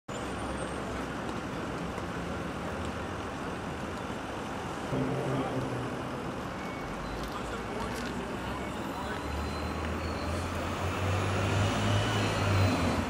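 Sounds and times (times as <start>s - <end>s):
street traffic rumble: 0.1s - 13.0s.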